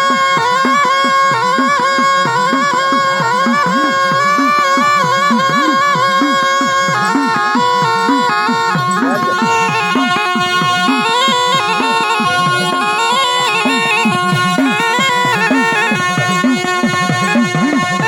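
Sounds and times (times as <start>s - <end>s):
reedy wind melody: 0.0s - 18.0s
held drone notes: 2.4s - 18.0s.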